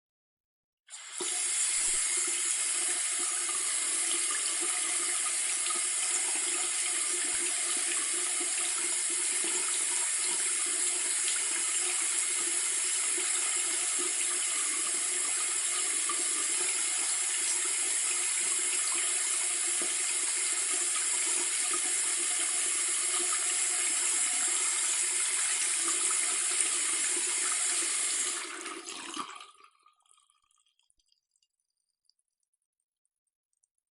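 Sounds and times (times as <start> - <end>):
faucet running into sink: 0.9 - 30.7.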